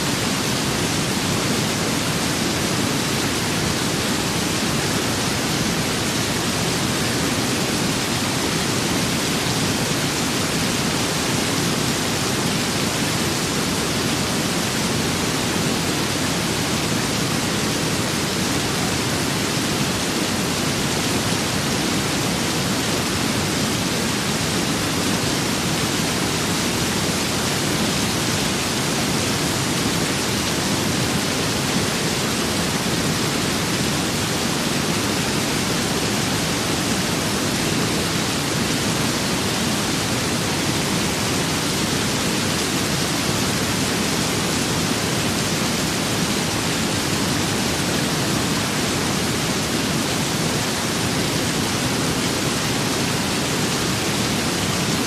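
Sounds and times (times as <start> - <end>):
rain and wind hiss: 0.0 - 55.0.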